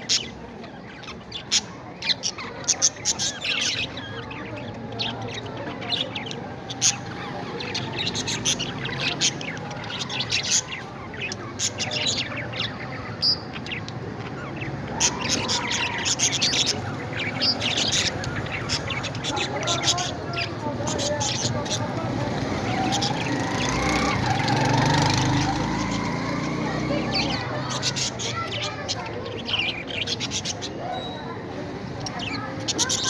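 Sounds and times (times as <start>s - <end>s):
parrots chirping: 0.0s - 31.2s, 31.9s - 33.0s.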